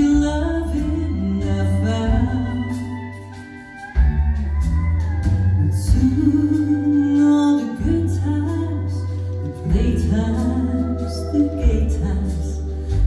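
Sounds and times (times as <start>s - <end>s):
woman singing: 0.0s - 3.4s, 5.3s - 13.0s
electric bass: 0.0s - 13.0s
pedal steel guitar: 0.0s - 13.0s.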